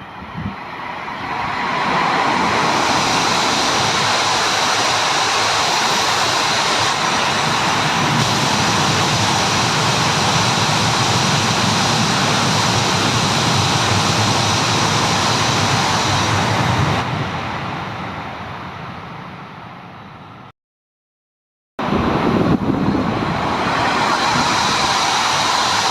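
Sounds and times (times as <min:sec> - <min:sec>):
high-speed train passing: 0:00.0 - 0:20.5, 0:21.8 - 0:25.9.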